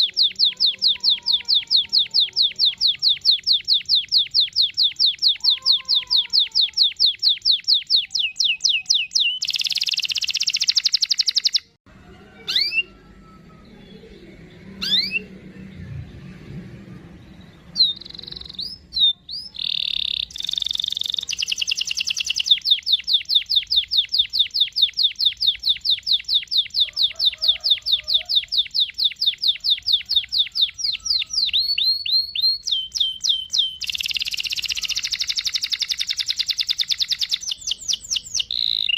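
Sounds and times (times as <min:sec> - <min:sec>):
canary singing trills: 0:00.0 - 0:16.2, 0:17.0 - 0:38.9.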